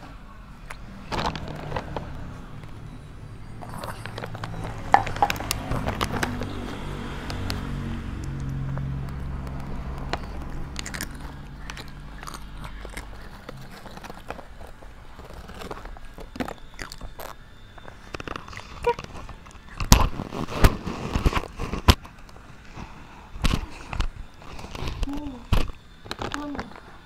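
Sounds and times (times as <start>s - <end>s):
low hum: 0.0s - 27.0s
child crunching chips: 0.7s - 27.0s.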